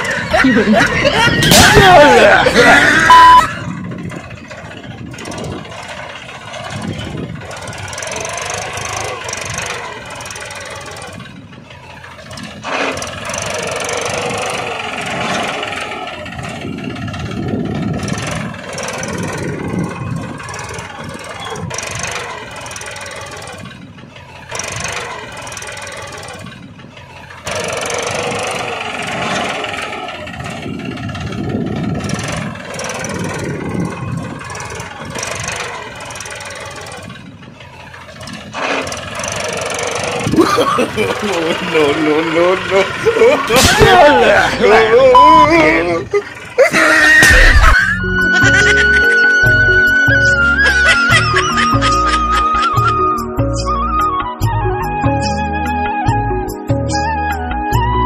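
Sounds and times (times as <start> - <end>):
small tractor engine running: 0.0 - 58.0.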